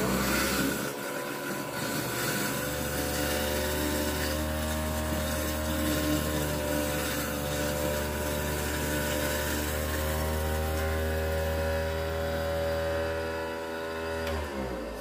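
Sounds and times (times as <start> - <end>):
garbage disposal motor running: 0.0 - 15.0.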